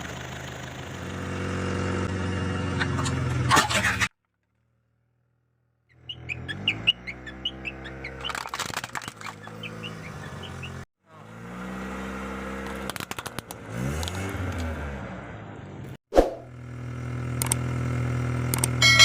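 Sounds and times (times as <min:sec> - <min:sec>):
car engine running: 0:00.0 - 0:04.1, 0:05.9 - 0:15.9, 0:16.5 - 0:19.0.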